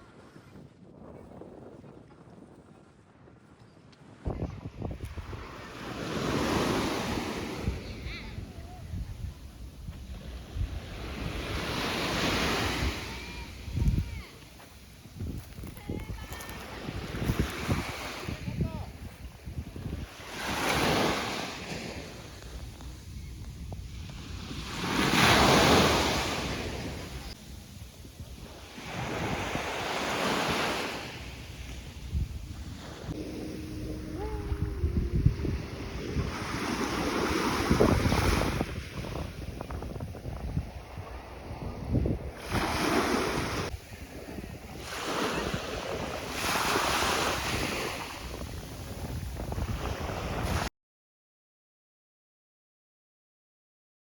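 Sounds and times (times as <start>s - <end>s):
wind rumbling on microphone: 0.0s - 50.7s
sea waves washing on shore: 5.0s - 50.7s.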